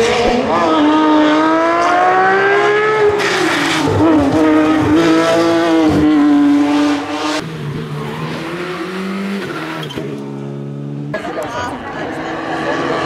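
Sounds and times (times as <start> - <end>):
distant rally car engine: 0.0 - 13.0
rally car engine at high revs: 0.0 - 13.0.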